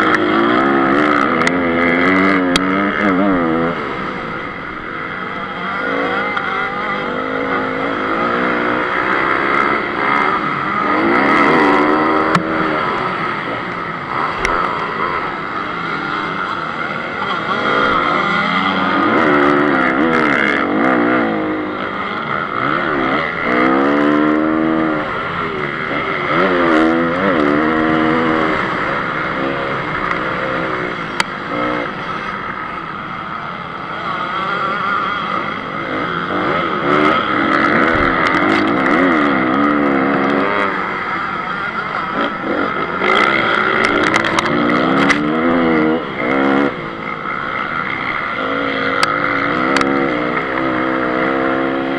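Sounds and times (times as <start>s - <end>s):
motocross engine revving: 0.0s - 51.9s.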